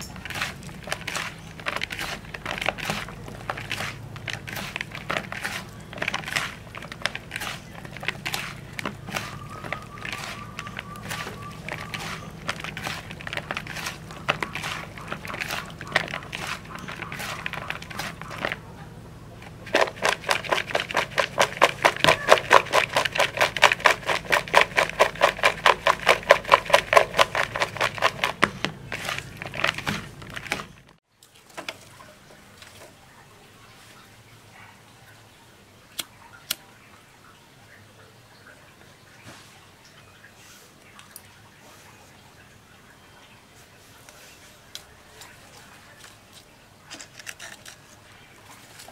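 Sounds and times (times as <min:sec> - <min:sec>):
hands squishing and mixing food: 0:00.0 - 0:33.0, 0:40.4 - 0:48.9.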